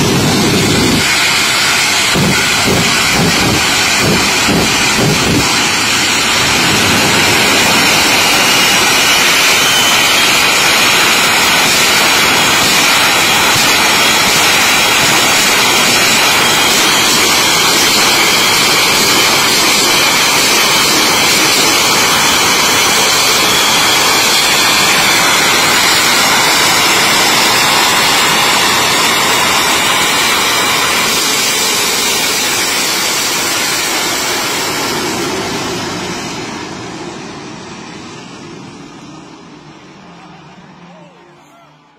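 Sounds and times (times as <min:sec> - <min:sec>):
faint high whine: 0:00.0 - 0:41.9
jet engines roaring: 0:00.0 - 0:41.9.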